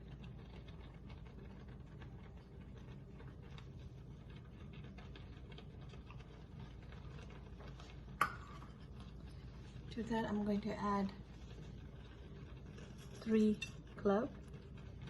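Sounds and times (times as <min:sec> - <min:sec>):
ghee crackling in a pan: 0:00.0 - 0:15.0
steady low hum: 0:00.0 - 0:15.0.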